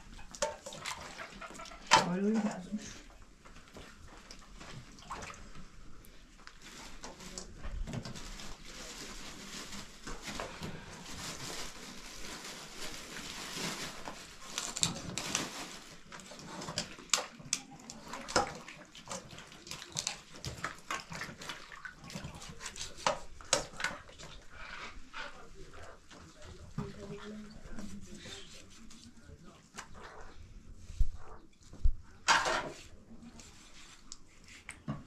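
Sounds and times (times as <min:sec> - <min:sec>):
hands washing meat in water: 0:00.0 - 0:11.5, 0:12.9 - 0:30.3.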